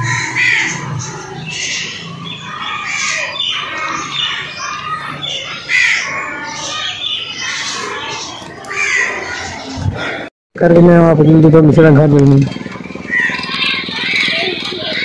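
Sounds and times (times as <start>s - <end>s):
small birds chirping and squawking: 0.0s - 10.3s, 10.9s - 15.0s.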